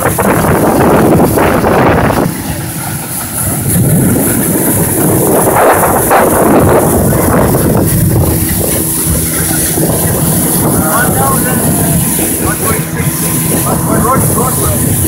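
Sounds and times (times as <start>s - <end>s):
outboard motor running: 0.0s - 15.0s
water rushing along hull: 0.0s - 15.0s
wind buffeting microphone: 0.0s - 15.0s.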